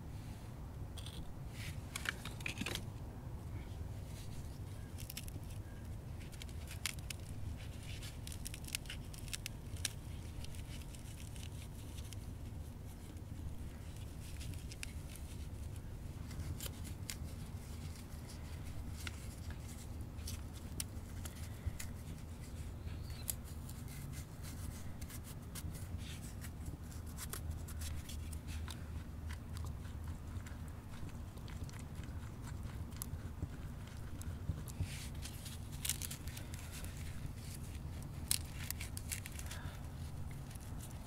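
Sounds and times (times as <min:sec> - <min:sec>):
low steady rumble: 0:00.0 - 0:41.0
small scrapes and clicks: 0:01.0 - 0:02.8, 0:04.0 - 0:41.0.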